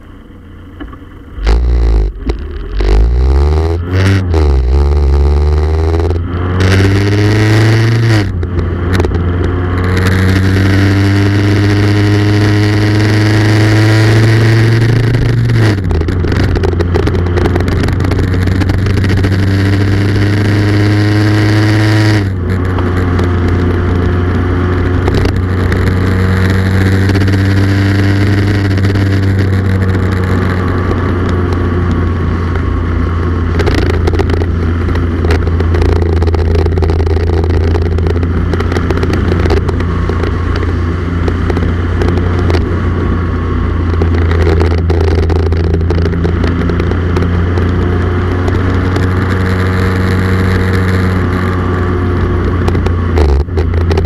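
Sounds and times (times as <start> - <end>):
wind and road noise: 0.0 - 54.0
motorcycle engine shifting gears: 0.7 - 54.0.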